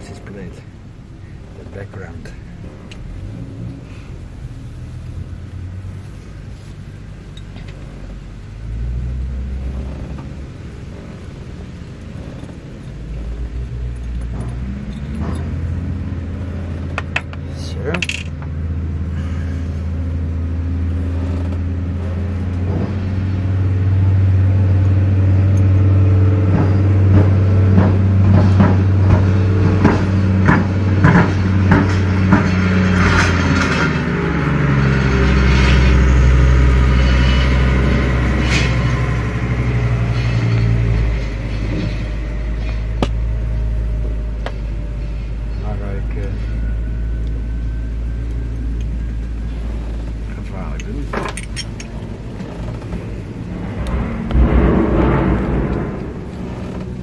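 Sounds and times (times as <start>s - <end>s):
low engine-like hum: 0.0s - 57.0s.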